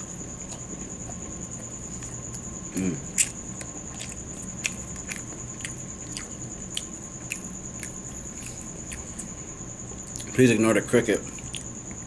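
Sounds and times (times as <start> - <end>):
cricket chirping: 0.0 - 12.0
crunchy chewing: 0.0 - 12.0.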